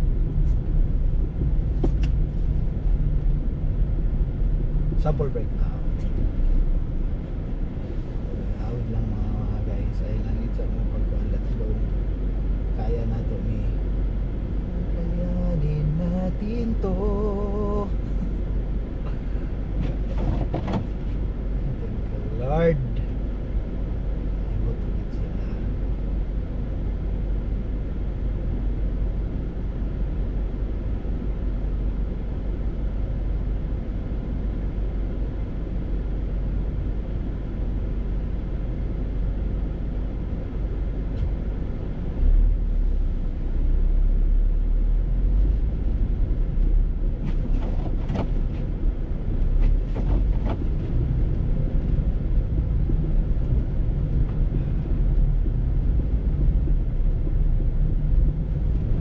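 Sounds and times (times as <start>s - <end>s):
vehicle rumble: 0.0s - 59.0s.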